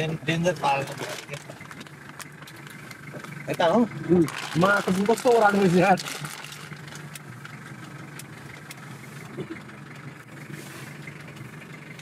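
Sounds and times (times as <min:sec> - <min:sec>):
truck engine idling low: 0:00.0 - 0:12.0.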